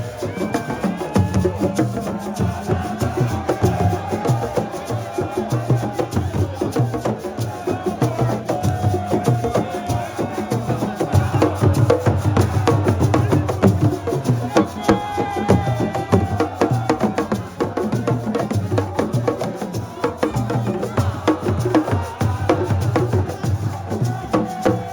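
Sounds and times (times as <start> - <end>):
fast dense drumming: 0.0 - 24.9.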